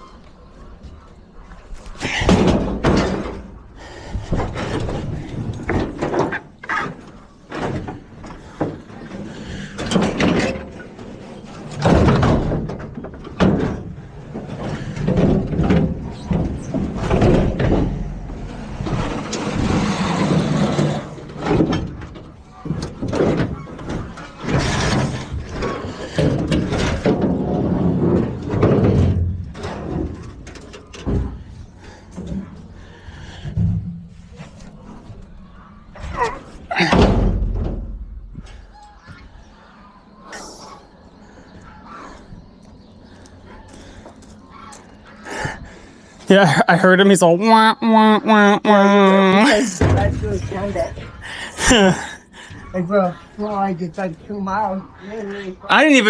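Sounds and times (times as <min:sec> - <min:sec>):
junk banging and clattering: 0:00.8 - 0:46.3, 0:49.4 - 0:56.0.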